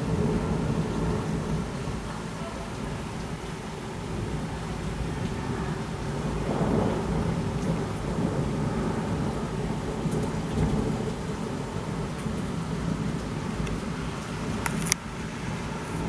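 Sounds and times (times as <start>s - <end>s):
heavy rain falling: 0.0s - 16.0s
rolling thunder rumble: 0.0s - 16.0s.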